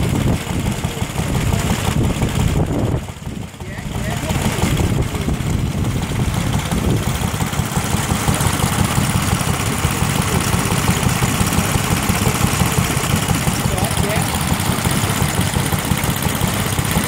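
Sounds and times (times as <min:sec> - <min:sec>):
stationary engine running: 0:00.0 - 0:17.0.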